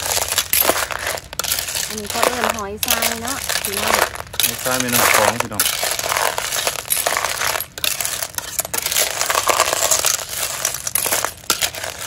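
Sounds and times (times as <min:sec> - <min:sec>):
crackly frying: 0:00.0 - 0:12.0
snail shells clattering in a pot: 0:00.0 - 0:12.0.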